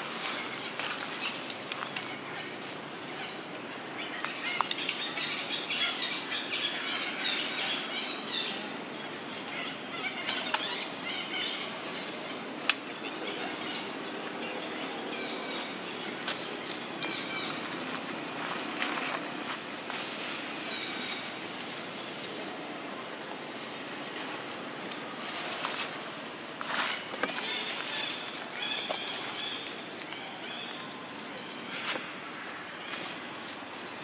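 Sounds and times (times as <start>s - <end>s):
rustling of dry leaf litter: 0.0s - 10.8s, 16.0s - 34.0s.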